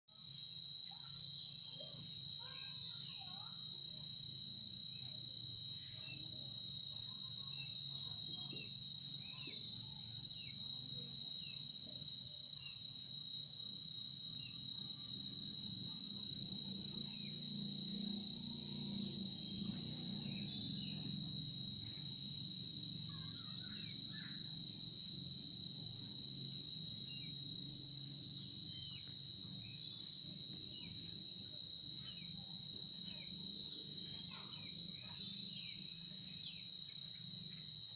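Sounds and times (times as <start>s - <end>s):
insects droning: 0.1s - 37.9s.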